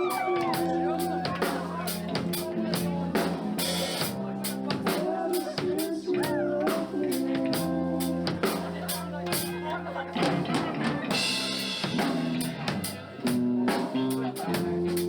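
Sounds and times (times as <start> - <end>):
bass line: 0.0 - 15.0
drum kit beat: 0.0 - 15.0.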